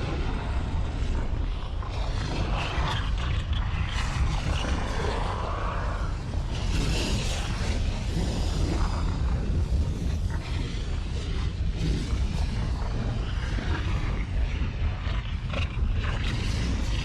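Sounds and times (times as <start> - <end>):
volcano rumbling: 0.0 - 17.0.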